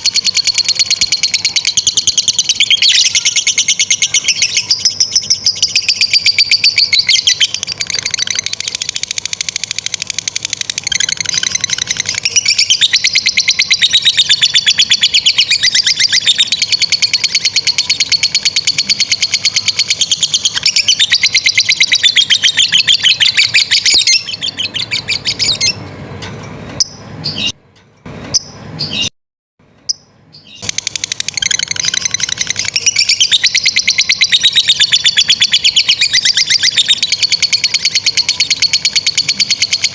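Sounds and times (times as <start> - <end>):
lovebird trilling: 0.0 - 25.8, 29.9 - 39.9.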